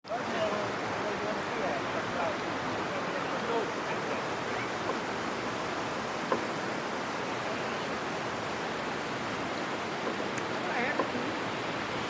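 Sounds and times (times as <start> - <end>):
waterfall roar: 0.1 - 12.0.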